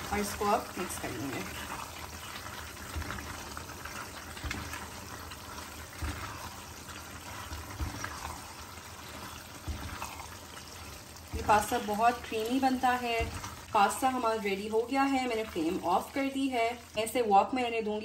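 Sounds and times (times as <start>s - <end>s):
spatula stirring pasta in sauce: 0.0s - 17.1s
sauce bubbling: 0.0s - 17.8s.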